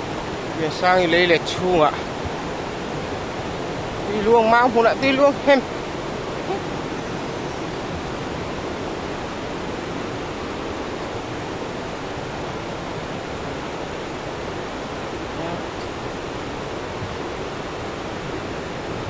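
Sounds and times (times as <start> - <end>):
river rushing in flood: 0.0 - 19.0.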